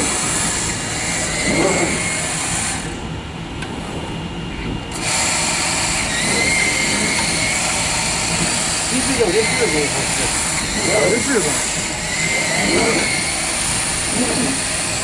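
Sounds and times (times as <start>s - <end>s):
high machine whine: 0.0s - 15.0s
machine hum: 0.0s - 15.0s.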